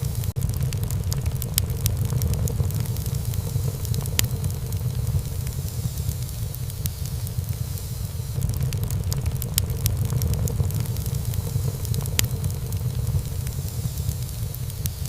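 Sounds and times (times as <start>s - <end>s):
flames rumbling: 0.0s - 15.0s
wood fire crackling and popping: 0.0s - 15.0s.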